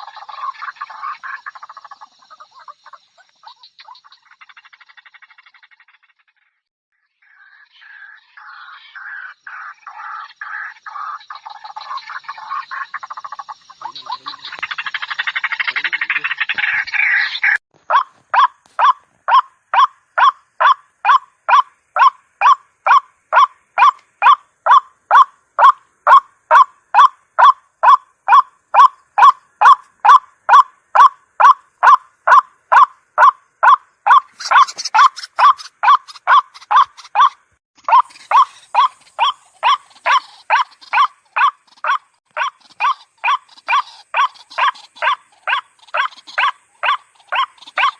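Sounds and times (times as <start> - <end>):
bird repeated croaking notes: 0.0 - 47.9
bird harsh chatter: 7.7 - 47.9.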